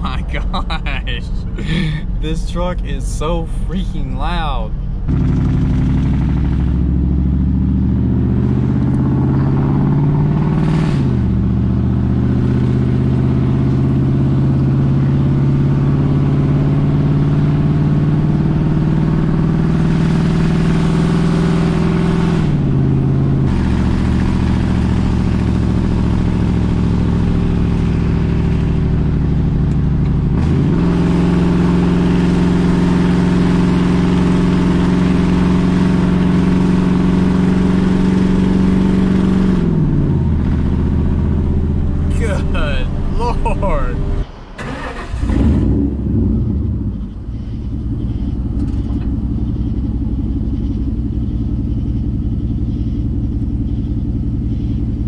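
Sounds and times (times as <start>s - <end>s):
loud truck engine driving: 0.0s - 55.0s.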